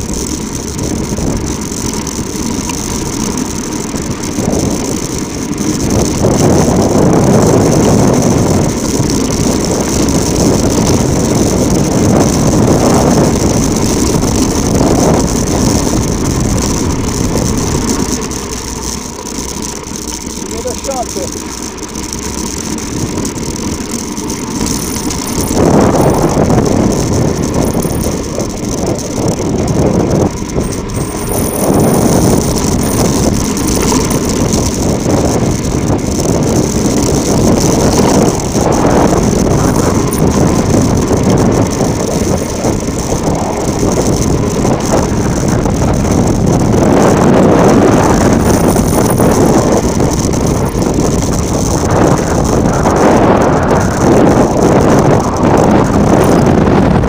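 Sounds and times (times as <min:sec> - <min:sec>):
wind on microphone: 0:00.0 - 0:18.9, 0:21.8 - 0:57.0
bike tyres crunching over gravel: 0:00.0 - 0:57.0.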